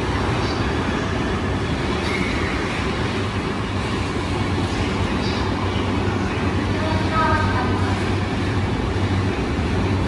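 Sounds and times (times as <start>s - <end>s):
electric train humming: 0.0s - 10.0s.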